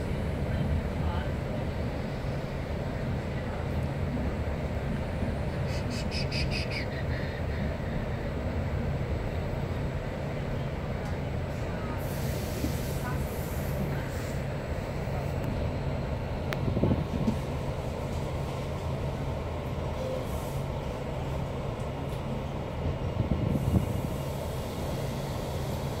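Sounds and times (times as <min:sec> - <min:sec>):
train rumble and hum: 0:00.0 - 0:26.0.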